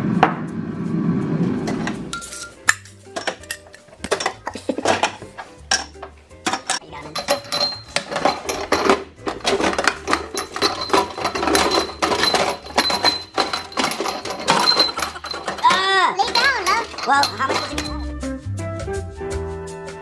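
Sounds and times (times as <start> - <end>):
glass jars clinking: 2.1 - 18.2.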